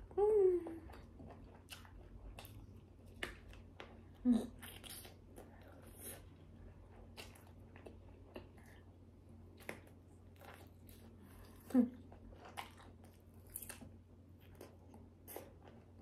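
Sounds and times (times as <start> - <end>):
chewing sausage: 0.6 - 16.0.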